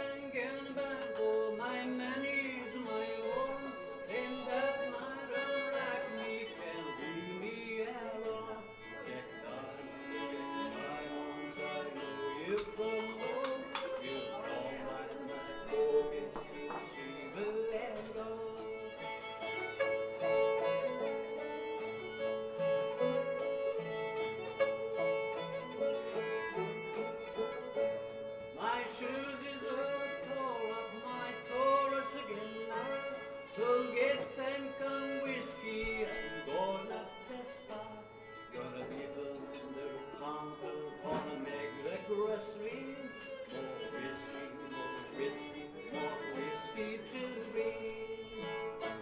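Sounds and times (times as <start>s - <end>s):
fiddle melody: 0.0s - 49.0s
plucked string accompaniment: 0.0s - 49.0s.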